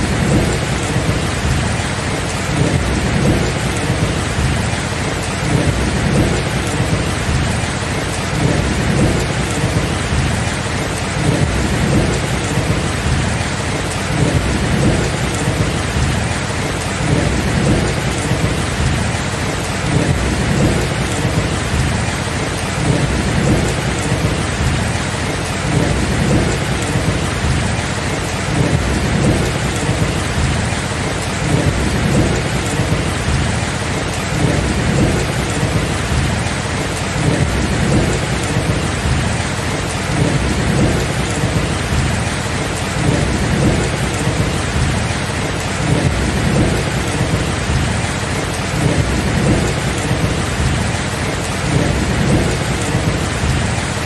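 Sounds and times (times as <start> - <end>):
heavy rain: 0.0 - 54.0
rolling thunder: 0.0 - 54.0.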